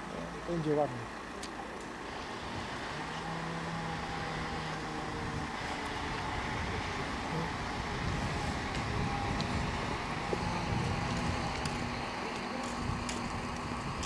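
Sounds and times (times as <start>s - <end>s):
diesel engine rumbling: 0.0s - 14.0s
low steady hum: 0.0s - 14.0s.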